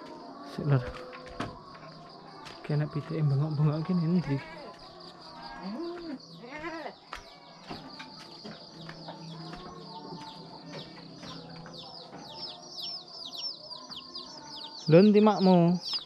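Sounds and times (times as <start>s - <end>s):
chicks peeping: 1.9s - 16.0s.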